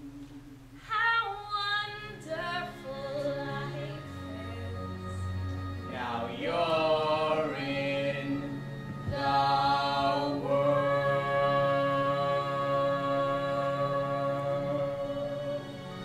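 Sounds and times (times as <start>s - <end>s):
sustained backing drone: 2.1s - 16.0s.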